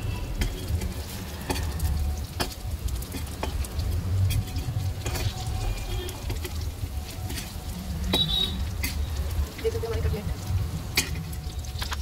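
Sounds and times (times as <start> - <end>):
cutlets sizzling in oil: 0.0 - 12.0.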